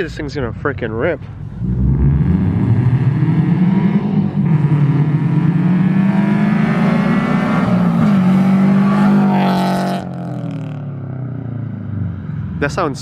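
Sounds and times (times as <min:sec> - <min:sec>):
car accelerating past: 0:01.4 - 0:12.6.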